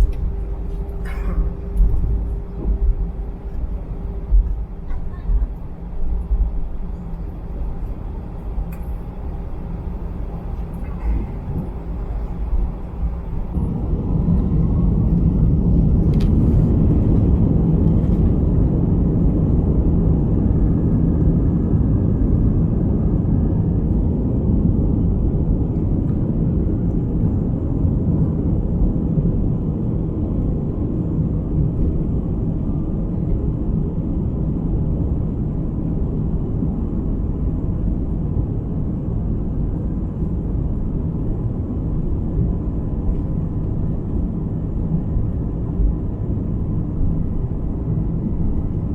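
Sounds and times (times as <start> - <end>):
aircraft engines and airflow rumble: 0.0 - 48.9.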